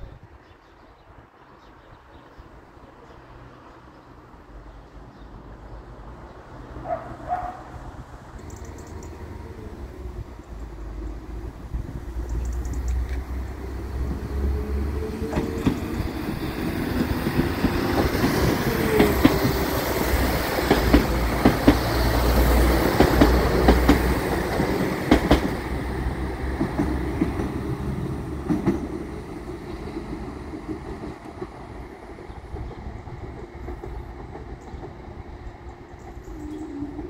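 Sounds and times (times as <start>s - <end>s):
diesel train engine hum: 2.6s - 37.0s.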